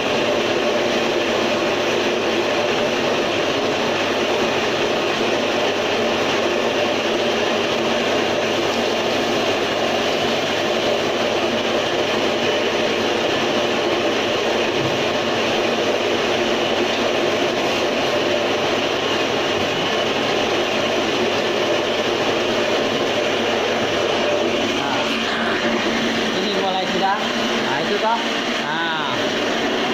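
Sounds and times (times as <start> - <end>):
machine running with low hum: 0.0 - 29.9.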